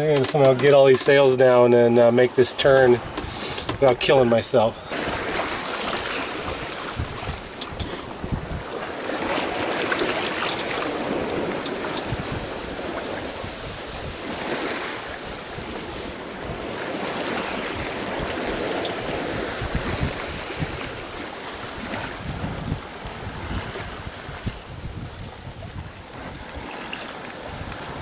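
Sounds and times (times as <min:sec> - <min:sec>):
water rushing along hull: 0:00.0 - 0:28.0
wind buffeting microphone: 0:02.6 - 0:28.0.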